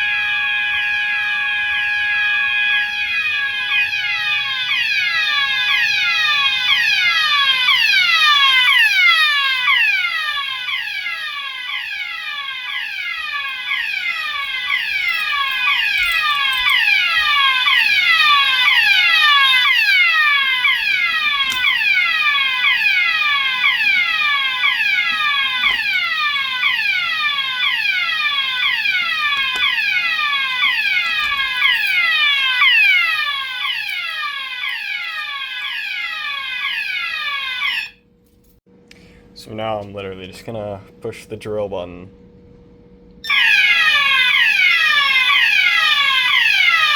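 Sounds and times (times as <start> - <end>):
fire alarm downward-sweeping tones: 0.0 - 38.1, 43.2 - 46.9
steady alarm tone: 0.0 - 38.1, 43.2 - 46.9.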